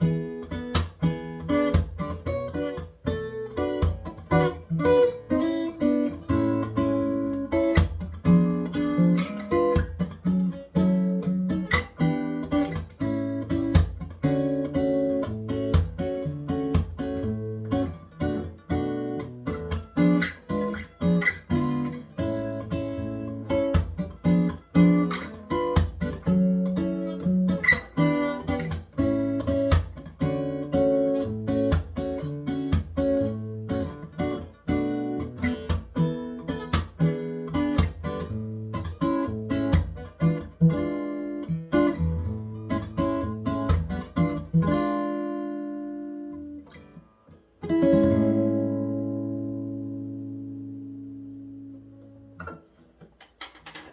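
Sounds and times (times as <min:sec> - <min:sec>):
acoustic guitar bossa nova rhythm: 0:00.0 - 0:53.9.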